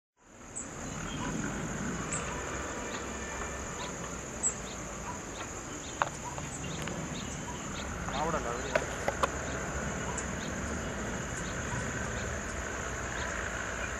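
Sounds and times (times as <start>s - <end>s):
high insect drone: 0.2s - 13.9s
distant diesel locomotives rumbling: 0.4s - 13.9s.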